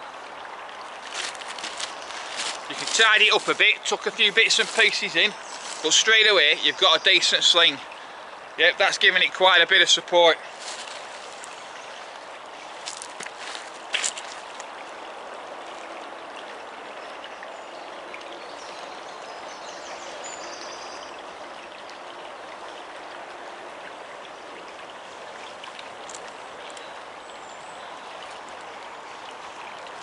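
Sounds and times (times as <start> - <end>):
stream flowing over stones: 0.0 - 30.0.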